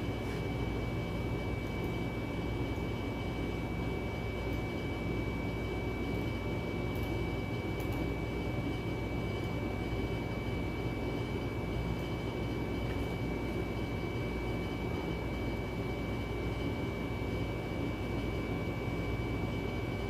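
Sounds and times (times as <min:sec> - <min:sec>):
low mechanical hum and hiss: 0:00.0 - 0:20.0.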